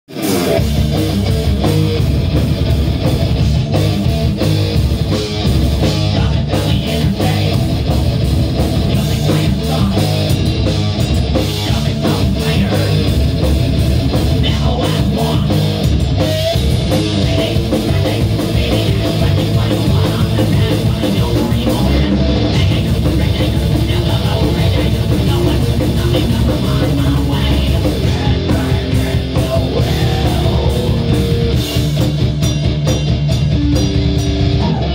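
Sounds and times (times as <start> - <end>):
bass guitar: 0.0 - 34.9
electric guitar: 0.0 - 34.9
drum kit: 0.1 - 34.9.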